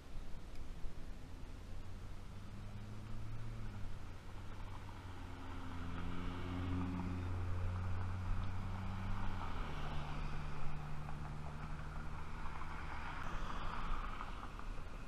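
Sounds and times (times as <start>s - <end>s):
car driving past: 0.8s - 15.0s.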